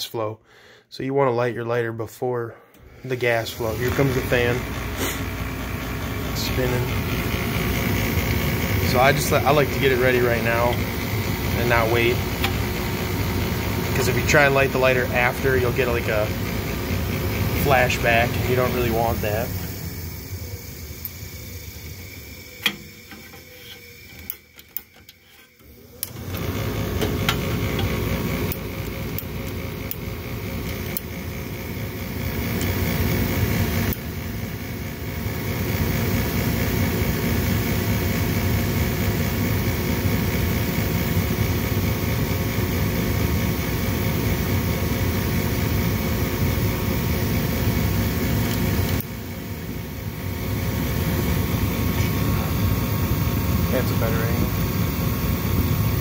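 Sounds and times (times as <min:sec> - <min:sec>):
furnace fan humming: 0:00.0 - 0:56.0.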